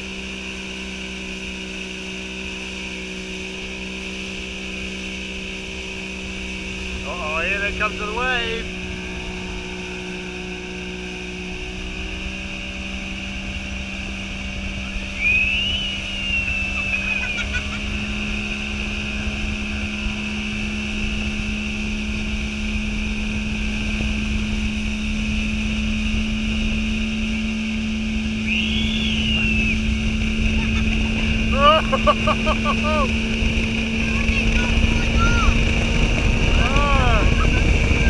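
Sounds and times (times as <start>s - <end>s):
outboard motor running: 0.0s - 38.0s
rushing water: 0.0s - 38.0s
wind: 0.0s - 38.0s.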